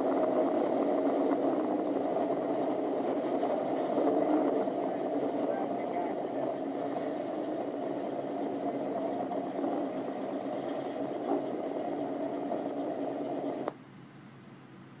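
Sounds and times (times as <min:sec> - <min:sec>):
car rattling: 0:00.0 - 0:13.7
race car engine running: 0:00.0 - 0:13.7
faint hum: 0:00.0 - 0:15.0.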